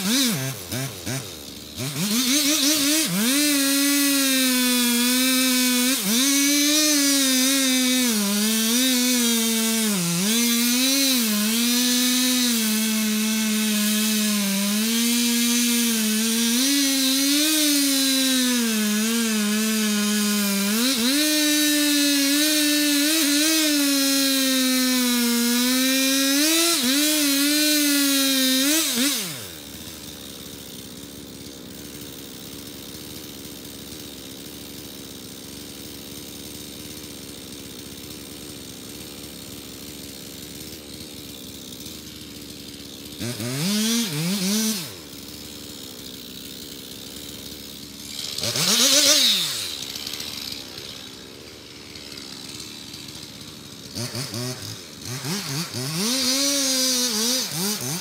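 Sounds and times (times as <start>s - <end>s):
chainsaw running: 0.0s - 58.0s.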